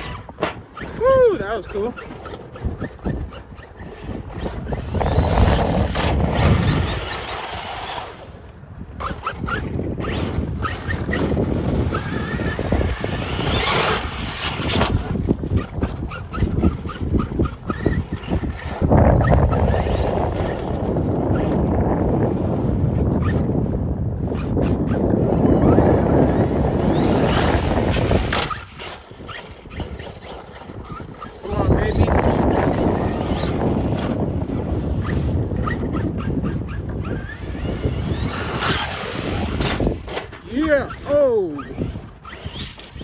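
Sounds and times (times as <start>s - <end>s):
electric motor whine: 0.0s - 43.0s
tyres on dirt: 0.0s - 43.0s.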